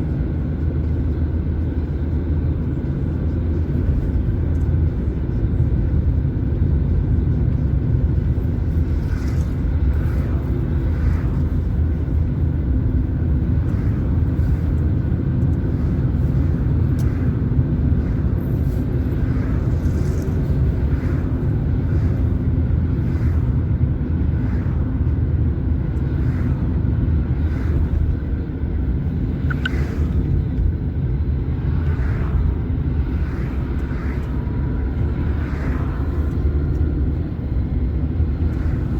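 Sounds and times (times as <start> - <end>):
car driving on road: 0.0 - 38.9.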